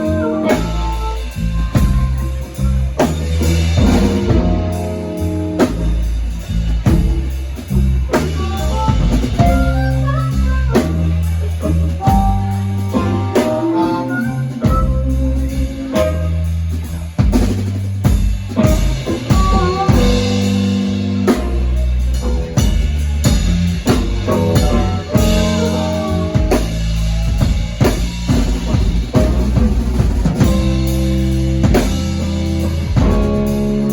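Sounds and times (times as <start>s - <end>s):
bass line: 0.0s - 33.9s
drum kit beat: 0.0s - 33.9s
guitar lead with bent notes: 0.0s - 33.9s.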